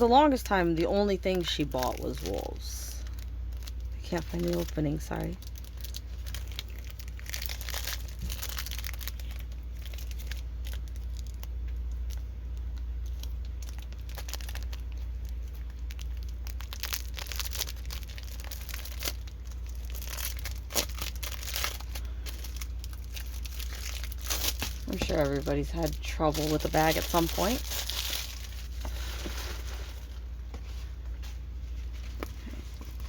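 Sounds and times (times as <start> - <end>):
low hum: 0.0 - 33.0
plastic bag crinkling: 0.0 - 33.0.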